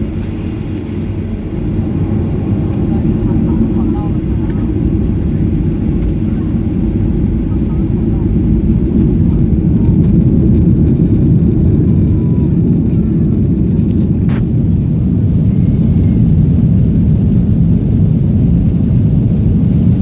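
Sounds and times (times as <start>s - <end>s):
jet engine cabin rumble: 0.0s - 20.0s.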